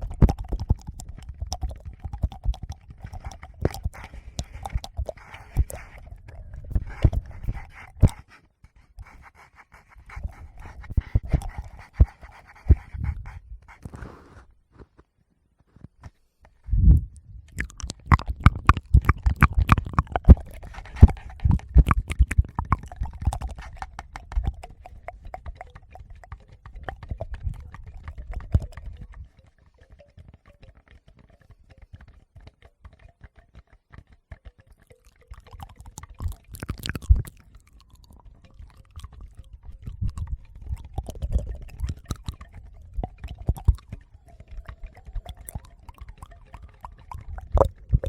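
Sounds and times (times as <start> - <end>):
wet mouth clicks and smacks: 0.0 - 14.0, 16.9 - 48.0.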